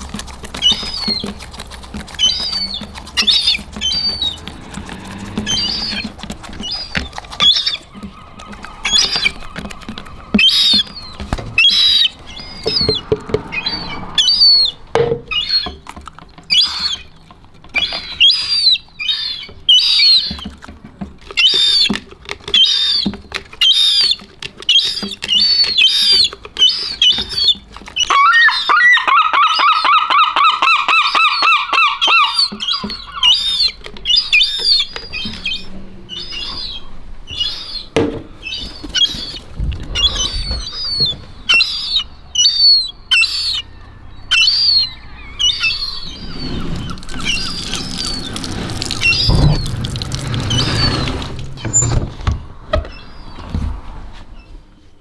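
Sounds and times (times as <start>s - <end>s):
seagulls squawking: 0.0s - 20.6s, 21.3s - 54.5s.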